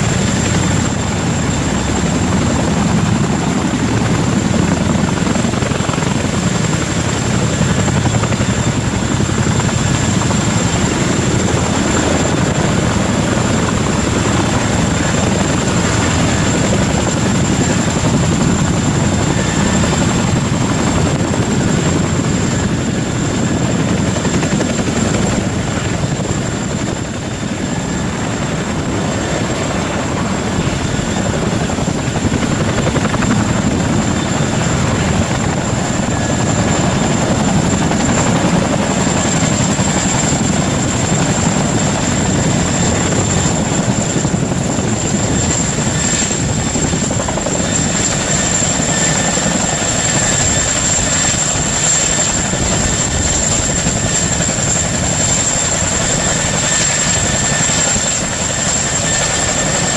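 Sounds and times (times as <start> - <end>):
helicopter rotor chop: 0.0 - 59.9
high turbine whine: 0.0 - 59.9.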